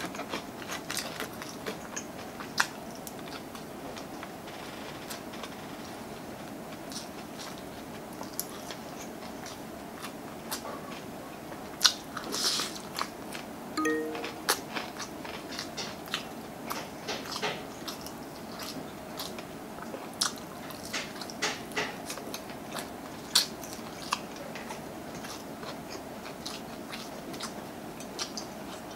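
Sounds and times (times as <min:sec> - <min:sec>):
crunching fried chicken: 0:00.0 - 0:13.5, 0:14.9 - 0:28.9.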